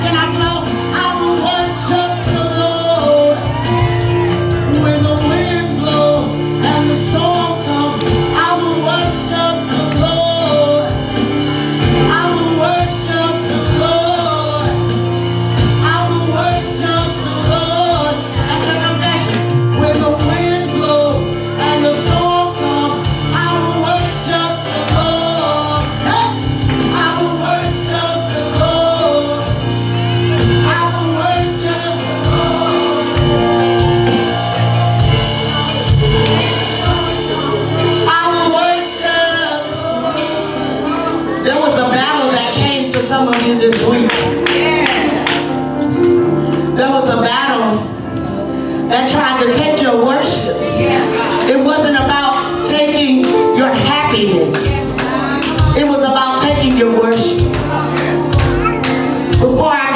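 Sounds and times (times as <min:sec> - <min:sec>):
gospel worship music: 0:00.0 - 0:59.9
person singing: 0:00.0 - 0:59.9
steady beat: 0:00.1 - 0:46.5, 0:50.8 - 0:59.7.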